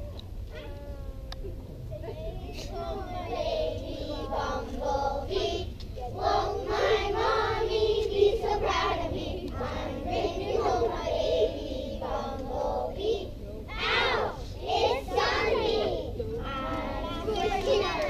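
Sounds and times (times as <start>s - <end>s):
children singing together: 2.5s - 18.0s.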